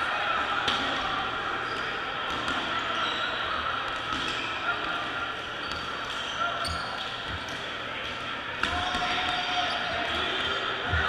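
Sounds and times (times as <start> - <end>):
players' voices and shouts: 0.0 - 11.0
balls bouncing and hitting players: 0.6 - 11.0.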